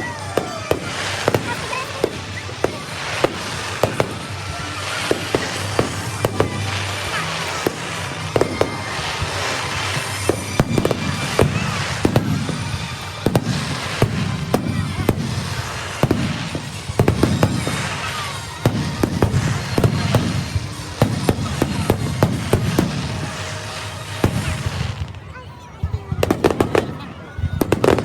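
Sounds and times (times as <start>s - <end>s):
fireworks bursting with bangs: 0.0s - 28.0s
fireworks crackling: 0.0s - 28.0s.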